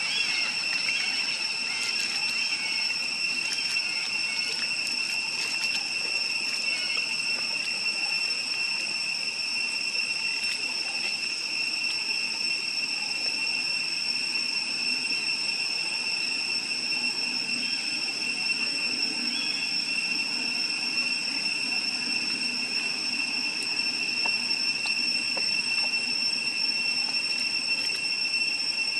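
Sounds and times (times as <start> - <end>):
high-pitched insect drone: 0.0 - 28.9.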